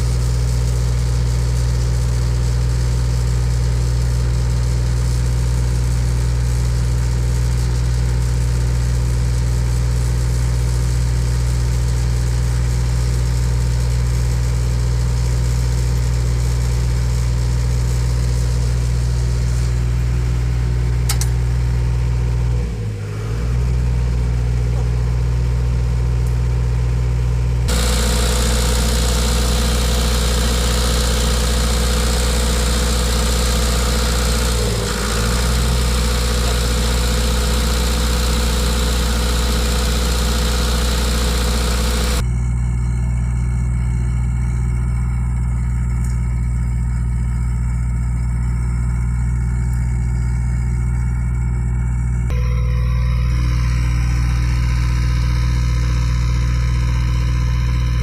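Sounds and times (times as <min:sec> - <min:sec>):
diesel generator engine running: 0:00.0 - 0:58.0.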